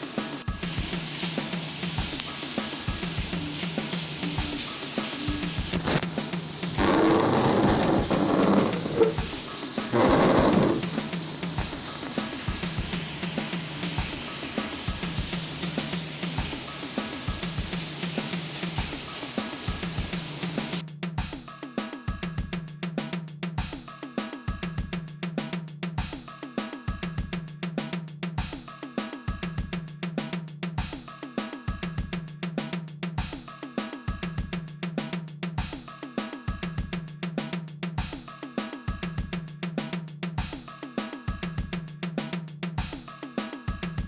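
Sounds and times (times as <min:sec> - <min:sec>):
drum and bass music: 0:00.0 - 0:44.0.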